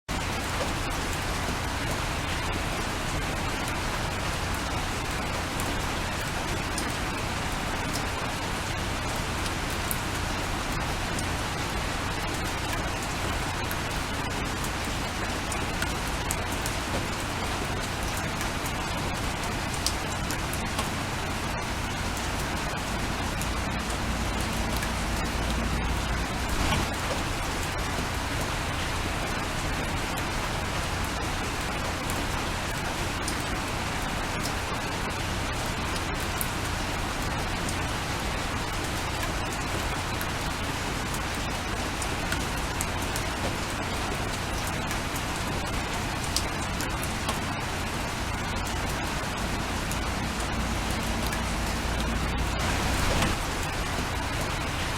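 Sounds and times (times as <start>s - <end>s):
raindrop ticks: 0.1s - 54.9s
steady rain hiss: 0.1s - 54.9s.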